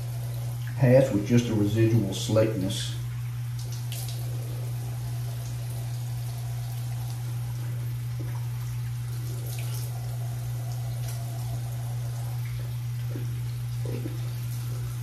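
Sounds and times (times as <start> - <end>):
steady low hum: 0.0 - 15.0
tap water running and splashing: 0.0 - 15.0.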